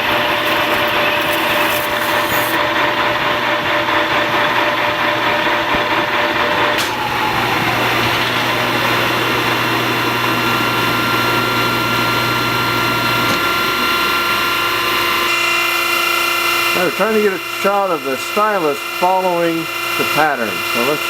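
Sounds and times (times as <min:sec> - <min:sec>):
metal lathe humming: 0:00.0 - 0:21.0.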